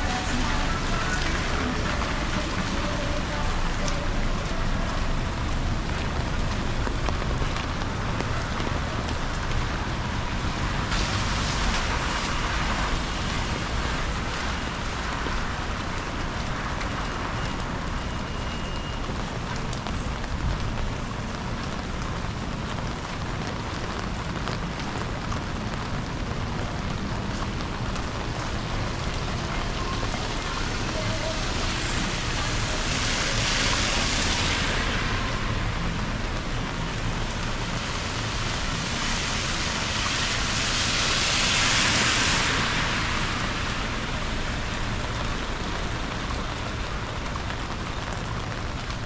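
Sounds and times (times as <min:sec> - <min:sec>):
steady rain falling: 0:00.0 - 0:49.0.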